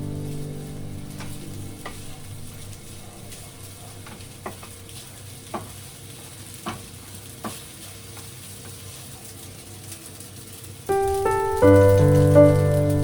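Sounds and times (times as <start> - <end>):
rice sizzling in a pan: 0.0 - 13.0.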